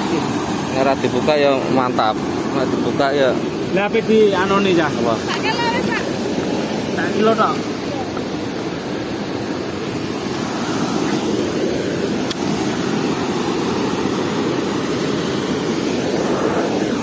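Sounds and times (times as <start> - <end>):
water rushing through sluice gates: 0.0 - 17.0.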